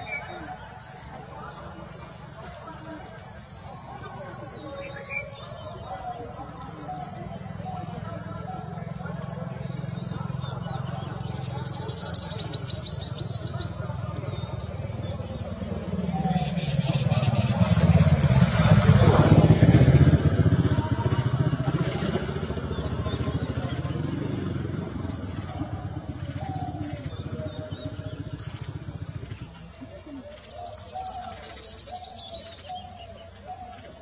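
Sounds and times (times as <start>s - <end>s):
bird trill: 3.2s - 19.5s, 20.6s - 34.0s.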